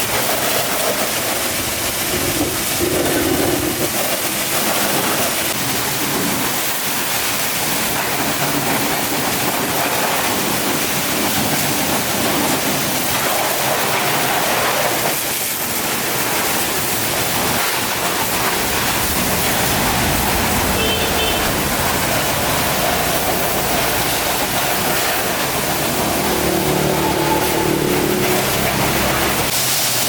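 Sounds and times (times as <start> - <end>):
rushing hiss of spraying water: 0.0 - 30.0.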